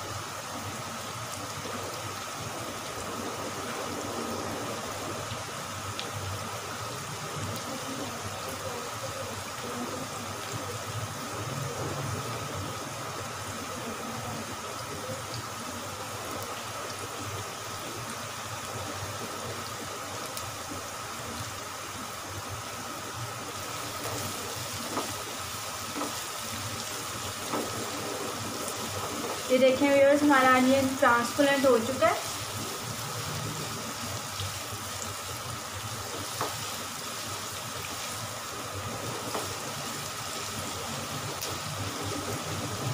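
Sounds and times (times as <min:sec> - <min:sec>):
onions sizzling in hot oil: 0:00.0 - 0:42.9.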